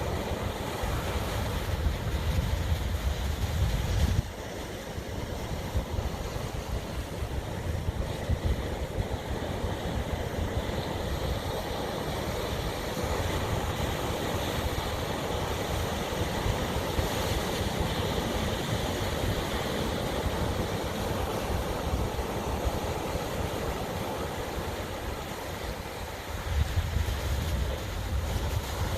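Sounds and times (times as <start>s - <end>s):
ocean surf washing ashore: 0.0s - 28.9s
wind rumbling on microphone: 0.0s - 28.9s.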